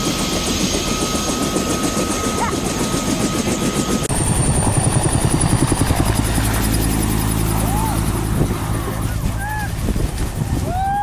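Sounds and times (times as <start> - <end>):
helicopter rotor beating: 0.0 - 11.0.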